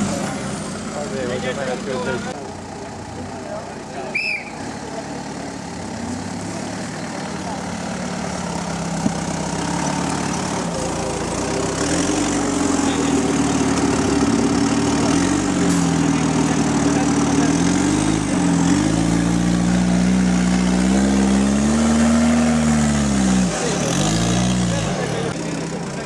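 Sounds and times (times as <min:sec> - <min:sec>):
buggy engine revving under load: 0:00.0 - 0:02.4, 0:04.5 - 0:26.0.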